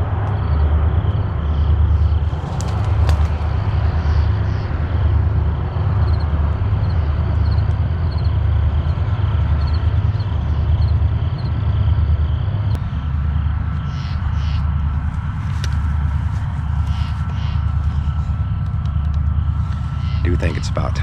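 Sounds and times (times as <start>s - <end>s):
diesel engines rumbling: 1.6s - 21.0s.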